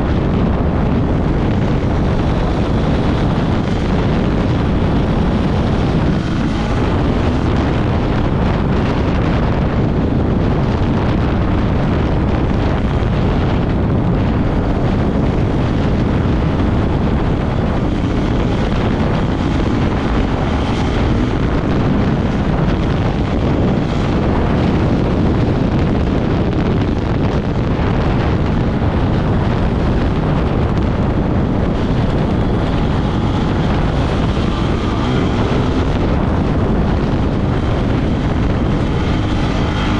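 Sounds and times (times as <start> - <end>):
vehicle engine running: 0.0 - 39.9
wind rumble on microphone: 0.0 - 39.9.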